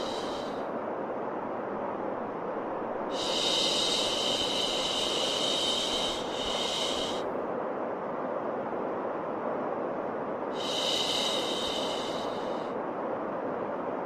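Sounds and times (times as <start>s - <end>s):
steady white noise: 0.0s - 14.0s.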